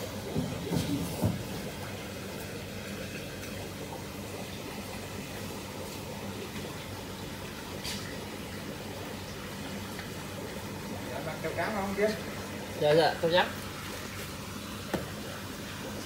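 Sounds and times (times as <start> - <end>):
water noise in tank: 0.0 - 16.0.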